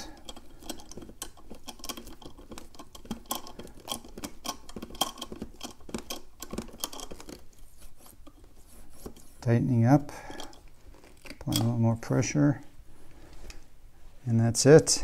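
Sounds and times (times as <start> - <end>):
loose pedal shifting: 0.0 - 12.0.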